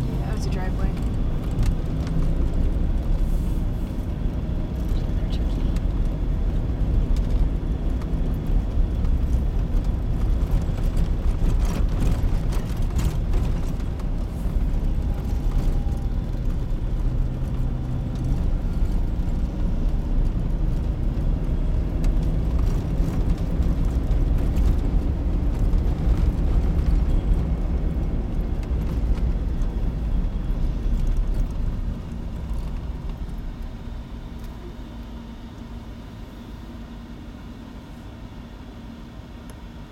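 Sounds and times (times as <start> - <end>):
car driving on snow from inside: 0.0 - 39.9.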